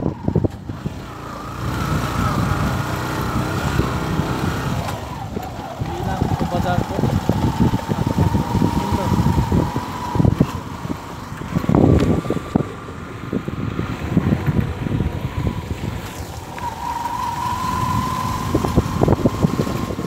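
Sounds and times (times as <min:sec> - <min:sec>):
motorcycle engine whine: 0:00.0 - 0:20.0
wind buffeting microphone: 0:00.0 - 0:20.0.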